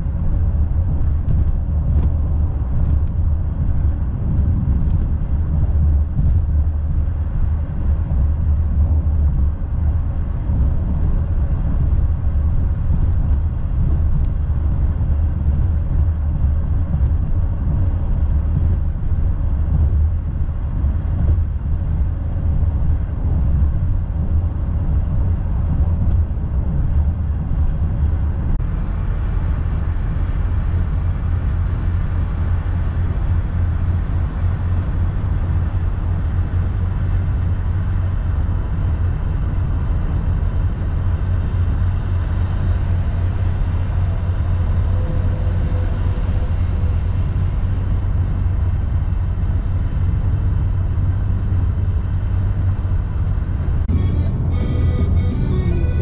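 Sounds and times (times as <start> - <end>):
car road and tyre rumble: 0.0 - 56.0.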